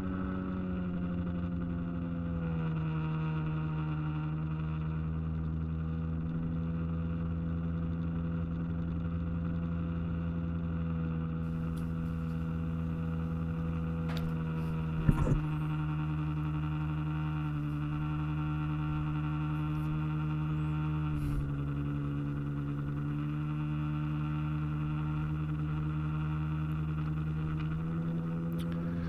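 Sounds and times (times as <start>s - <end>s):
boat motor droning: 0.0s - 29.0s.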